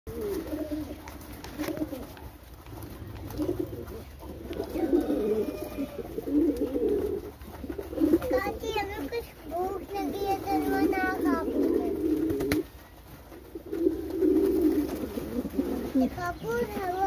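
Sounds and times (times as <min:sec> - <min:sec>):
pigeons cooing: 0:00.1 - 0:17.0.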